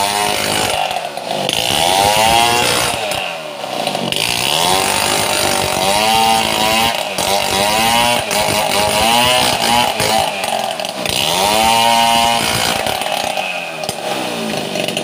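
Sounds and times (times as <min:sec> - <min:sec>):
chainsaw cutting log: 0:00.0 - 0:15.0.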